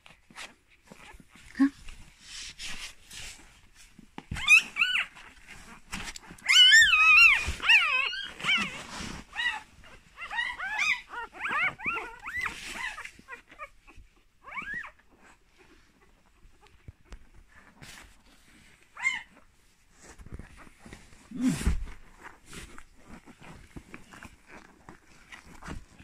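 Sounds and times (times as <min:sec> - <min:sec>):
newborn puppies squeaking and whining: 0:02.3 - 0:26.0.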